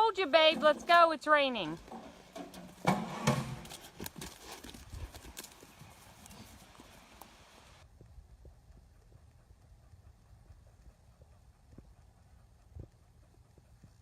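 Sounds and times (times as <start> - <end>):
hooves clopping on hard surface: 0.0 - 14.0.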